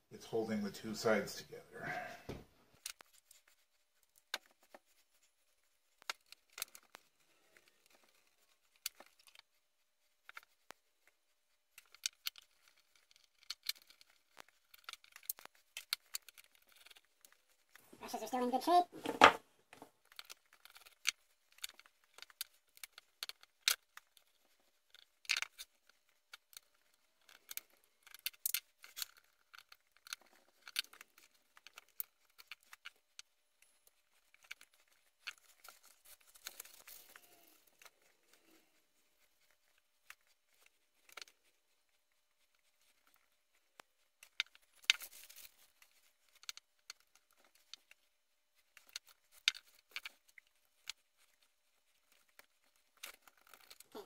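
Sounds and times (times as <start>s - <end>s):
plastic parts clicking and tapping: 2.8s - 5.0s, 6.0s - 9.5s, 11.7s - 17.8s, 19.0s - 38.1s, 39.4s - 41.5s, 42.6s - 54.0s.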